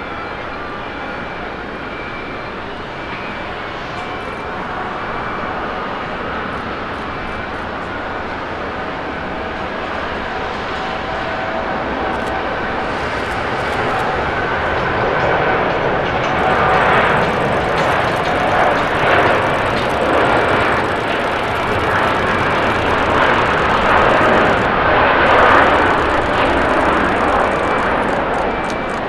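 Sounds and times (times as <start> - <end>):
jet engines at takeoff thrust: 0.0 - 29.0.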